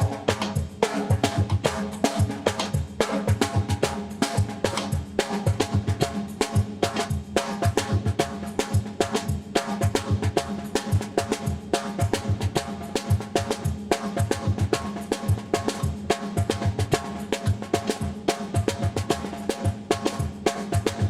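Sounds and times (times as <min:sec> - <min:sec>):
drums playing a groove: 0:00.0 - 0:21.0.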